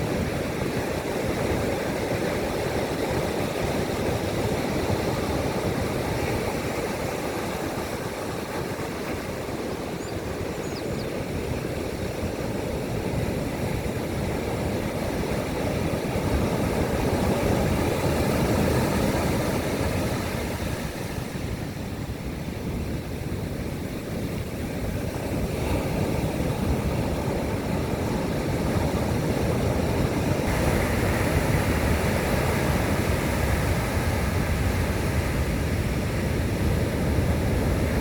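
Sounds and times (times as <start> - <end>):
ocean surf breaking: 0.0 - 22.4, 23.8 - 38.0
wind buffeting microphone: 0.0 - 38.0.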